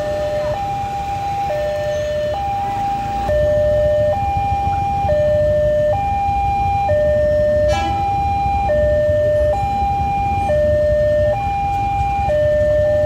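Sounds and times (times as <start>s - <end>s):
level crossing two-tone alarm: 0.0s - 13.0s
low traffic rumble: 0.0s - 13.0s.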